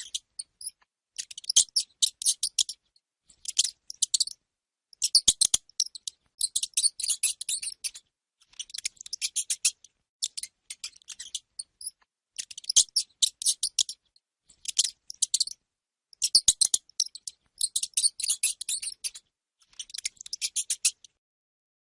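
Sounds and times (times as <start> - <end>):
hamster squeaking: 0.0 - 4.4, 5.0 - 15.6, 16.2 - 21.2.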